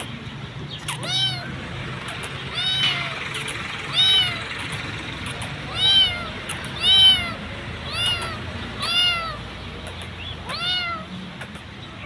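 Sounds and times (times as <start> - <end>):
kitten meowing: 0.8 - 11.6.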